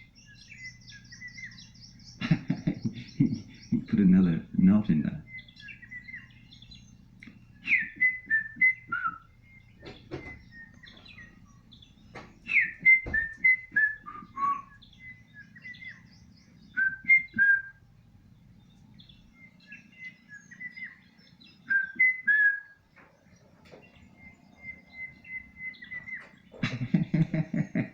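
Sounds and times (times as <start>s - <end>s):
songbird singing: 0.0s - 27.9s.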